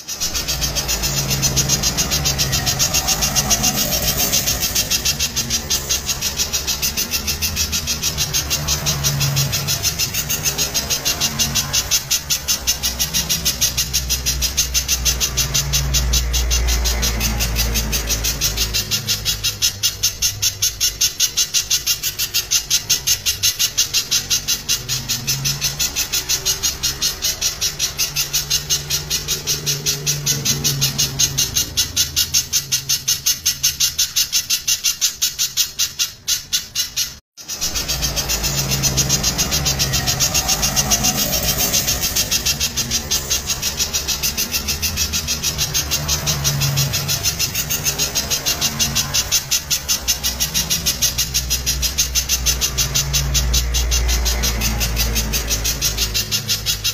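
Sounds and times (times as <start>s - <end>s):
bird calling rapid high notes: 0.0s - 56.9s.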